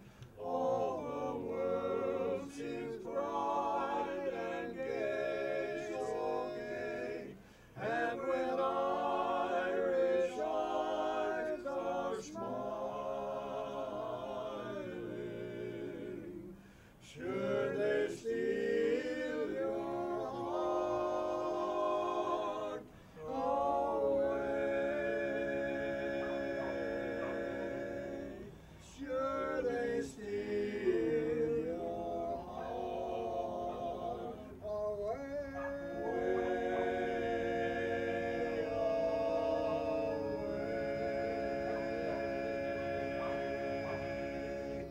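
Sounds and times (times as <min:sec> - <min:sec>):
barbershop quartet singing: 0:00.0 - 0:44.9.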